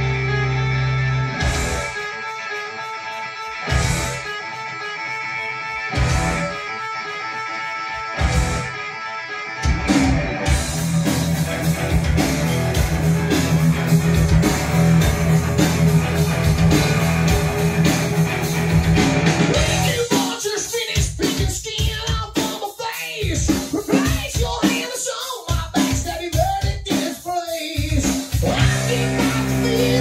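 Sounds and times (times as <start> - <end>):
guitar-led rock music: 0.0 - 30.0.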